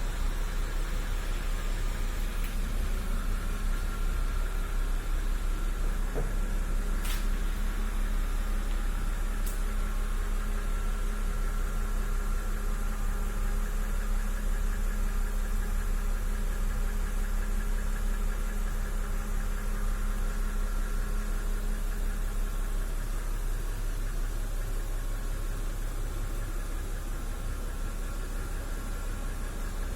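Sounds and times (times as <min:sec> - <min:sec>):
car engine idling: 0:00.0 - 0:29.9
engine knocking: 0:00.0 - 0:29.9.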